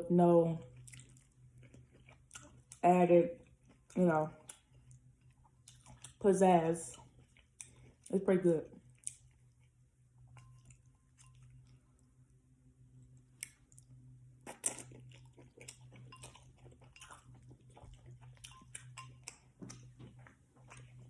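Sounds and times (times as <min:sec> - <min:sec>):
steady low hum: 0:00.0 - 0:21.0
chewing noodles: 0:00.6 - 0:06.2, 0:06.8 - 0:08.1, 0:08.8 - 0:11.8, 0:13.4 - 0:21.0.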